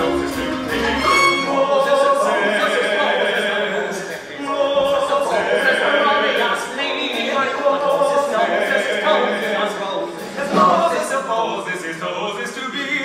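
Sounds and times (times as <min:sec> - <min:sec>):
singers holding long notes: 0:00.0 - 0:11.1.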